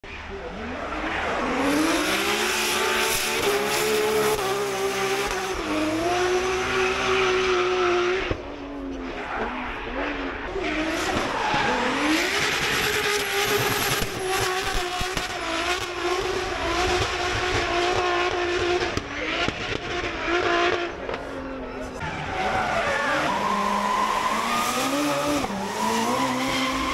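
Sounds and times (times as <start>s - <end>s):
racing car engine revving: 0.2s - 26.9s.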